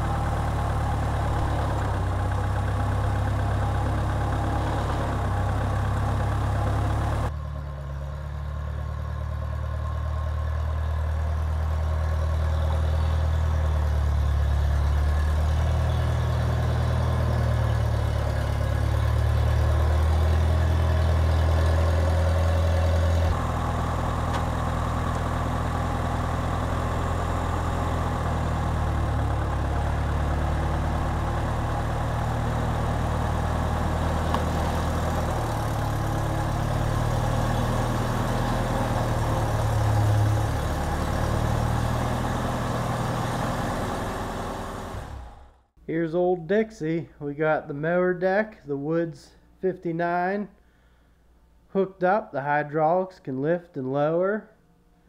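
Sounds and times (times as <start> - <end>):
tractor engine running: 0.0 - 45.7.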